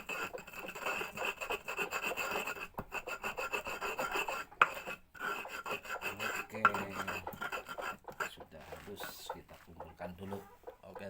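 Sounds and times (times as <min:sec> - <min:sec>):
pestle grinding in a mortar: 0:00.0 - 0:09.7.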